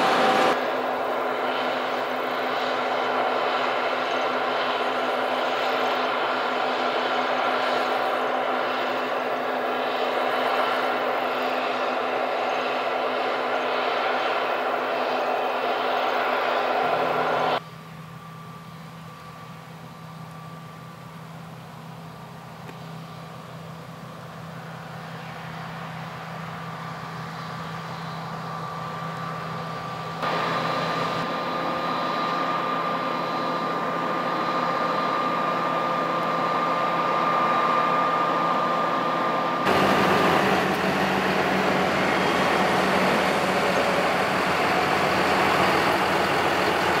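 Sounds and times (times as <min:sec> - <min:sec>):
combine harvester running: 0:00.0 - 0:47.0.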